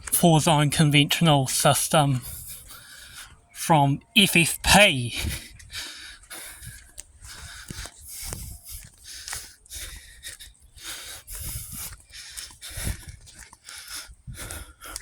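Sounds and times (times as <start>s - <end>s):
person breathing close to microphone: 1.3s - 3.6s, 5.1s - 15.0s.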